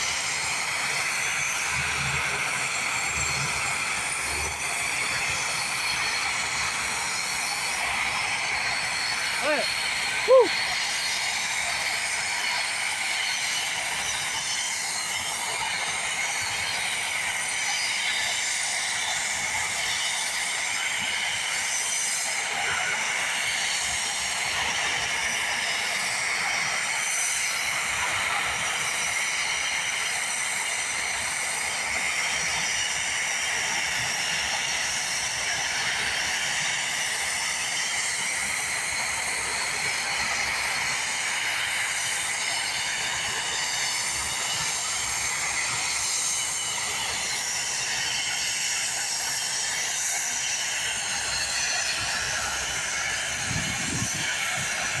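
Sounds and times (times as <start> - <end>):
bulldozer engine running: 0.0 - 20.2, 22.4 - 55.0.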